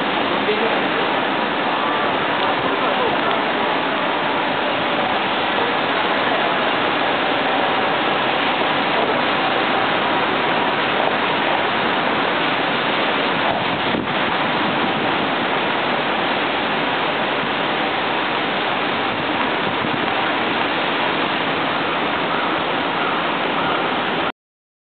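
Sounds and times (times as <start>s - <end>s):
rain falling on street: 0.0s - 24.3s.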